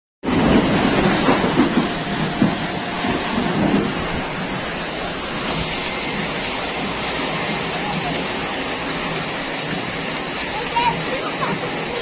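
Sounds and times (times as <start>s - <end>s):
hailstones striking: 0.2s - 12.0s
heavy rain hissing: 0.2s - 12.0s.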